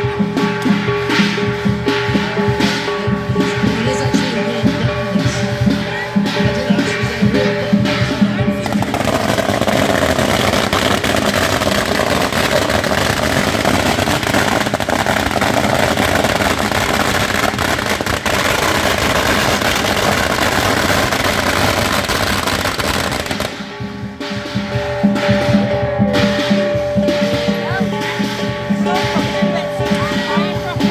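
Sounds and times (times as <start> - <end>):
firecrackers crackling: 0.0 - 30.9.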